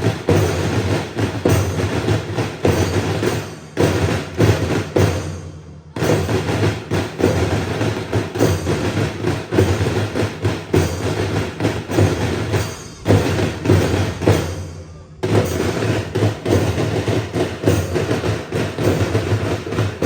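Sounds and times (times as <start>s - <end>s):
marching band drums beating: 0.0s - 20.0s.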